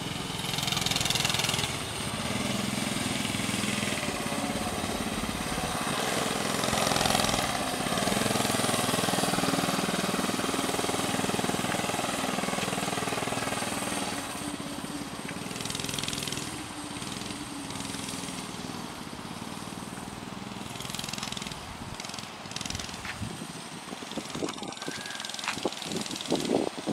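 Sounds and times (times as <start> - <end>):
mini bike engine running: 0.0 - 26.9.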